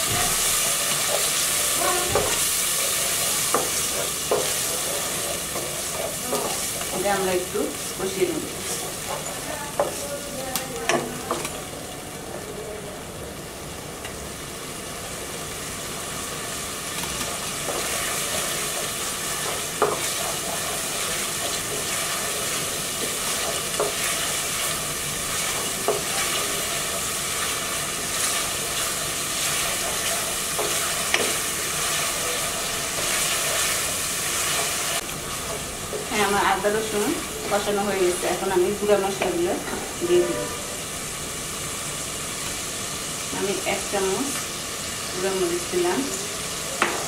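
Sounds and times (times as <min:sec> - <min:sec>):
paste sizzling in oil: 0:00.0 - 0:12.1, 0:14.3 - 0:47.0.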